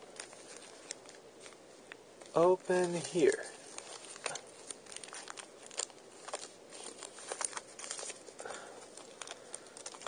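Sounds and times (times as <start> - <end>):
plastic packaging clicks and crinkles: 0.0 - 10.0.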